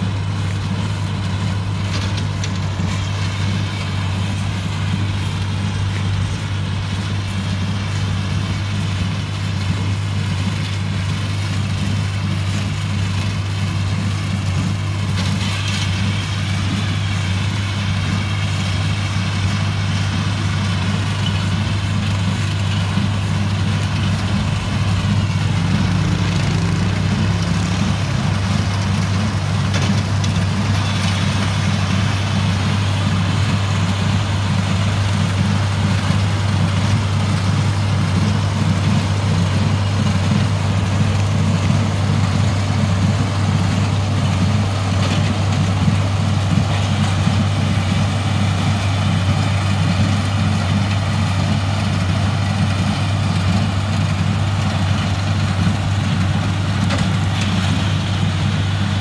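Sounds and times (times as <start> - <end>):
baler machinery working: 0.0 - 59.0
tractor engine running: 0.0 - 59.0.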